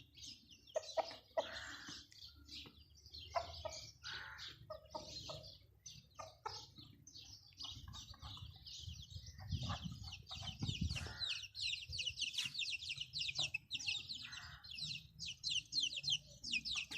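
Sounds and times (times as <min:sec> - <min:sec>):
chickens clucking: 0:00.0 - 0:16.9
small birds chirping: 0:00.0 - 0:16.9.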